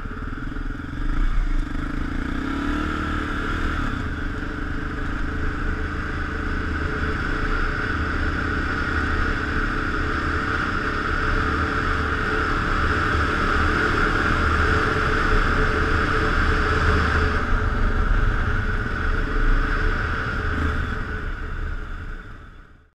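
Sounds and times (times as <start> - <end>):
motorcycle engine cruising: 0.0 - 22.8.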